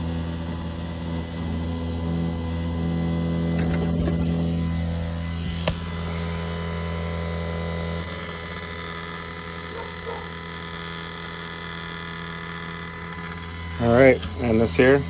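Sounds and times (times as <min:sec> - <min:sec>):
grinder motor humming: 0:00.0 - 0:15.0.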